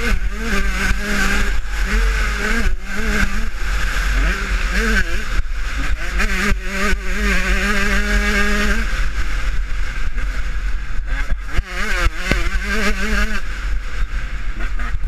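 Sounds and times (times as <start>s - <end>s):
motocross engine at speed: 0.0s - 15.0s.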